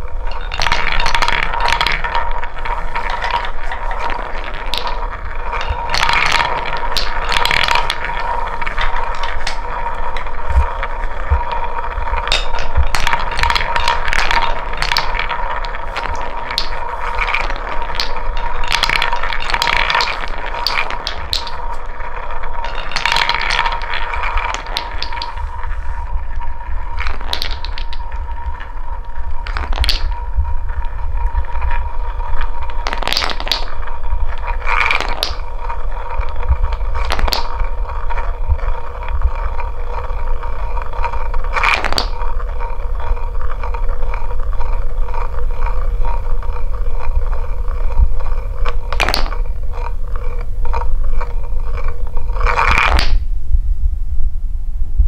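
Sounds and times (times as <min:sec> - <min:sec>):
wooden ball clacking: 0:00.0 - 0:53.3
wooden balls rolling in a bowl: 0:00.0 - 0:53.6.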